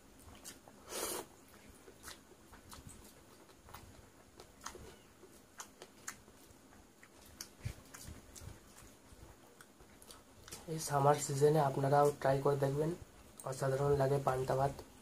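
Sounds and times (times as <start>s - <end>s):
chewing rice: 0.0s - 12.4s.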